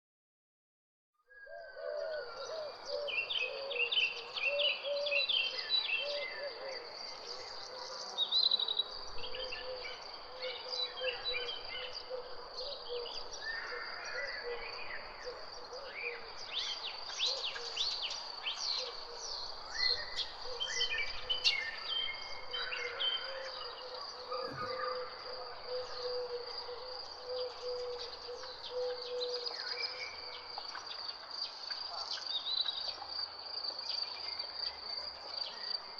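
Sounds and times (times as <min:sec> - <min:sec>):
birds chirping and trilling: 0:01.3 - 0:35.9.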